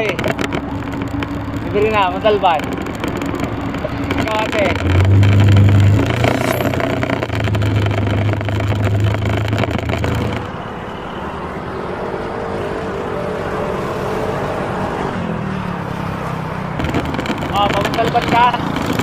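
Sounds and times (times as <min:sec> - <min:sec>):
engine hum: 0:00.0 - 0:19.0
road traffic noise: 0:00.0 - 0:19.0.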